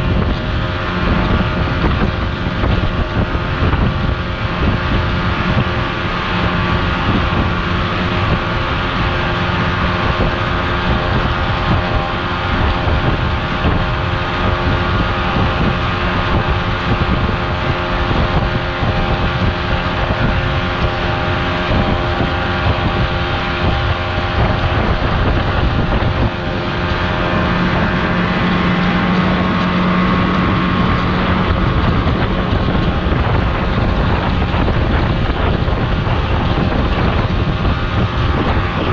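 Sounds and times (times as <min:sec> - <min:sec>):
outboard motor running: 0:00.0 - 0:38.9
wind buffeting microphone: 0:00.0 - 0:38.9.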